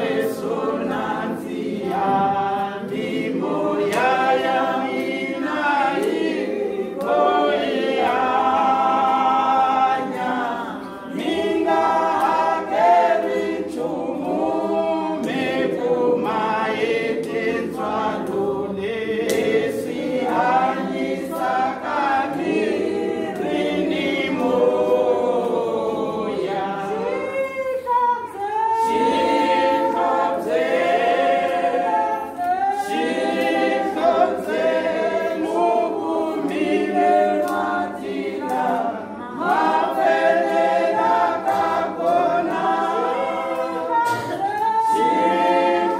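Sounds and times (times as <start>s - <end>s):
women's choir singing: 0.0s - 45.9s.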